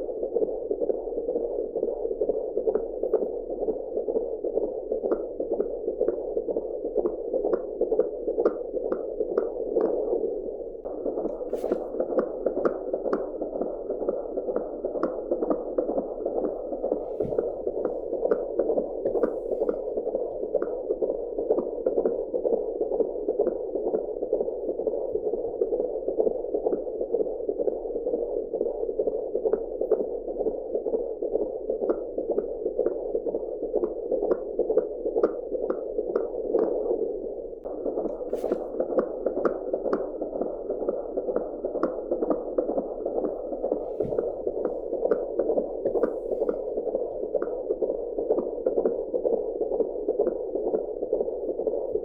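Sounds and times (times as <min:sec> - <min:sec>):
fetal heartbeat whooshing pulses: 0:00.0 - 0:52.0.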